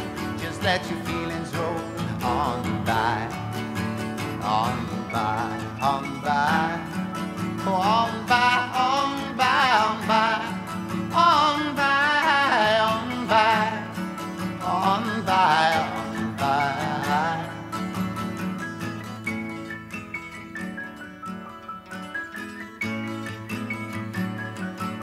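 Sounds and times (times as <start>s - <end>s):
plucked acoustic guitar: 0.0s - 25.0s.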